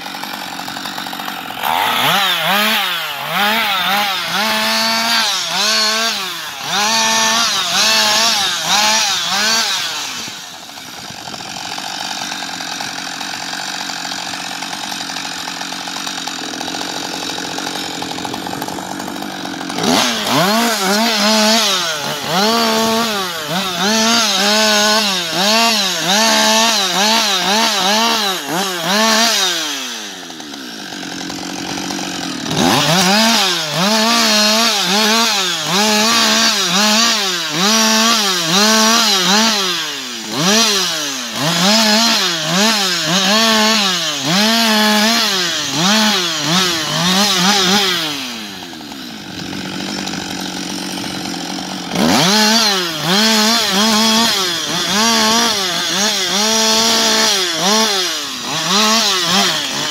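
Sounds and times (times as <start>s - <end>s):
chainsaw cutting logs: 0.0s - 59.9s
chainsaw idling: 0.0s - 59.9s.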